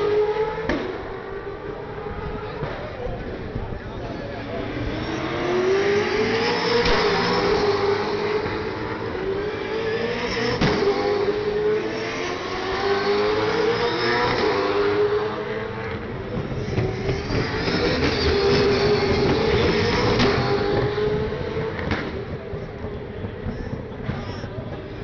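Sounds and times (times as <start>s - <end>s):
race cars passing at speed: 0.0s - 25.0s.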